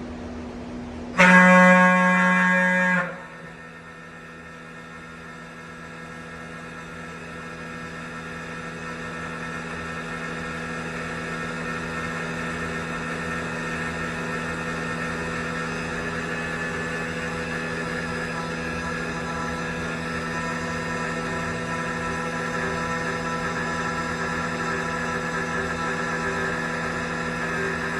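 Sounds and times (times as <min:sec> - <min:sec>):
machine tool hum and whine: 0:00.0 - 0:27.9.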